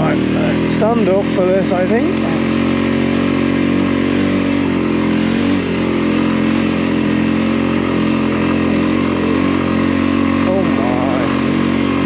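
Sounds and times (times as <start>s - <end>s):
motorcycle engine pulling under load: 0.0s - 12.0s.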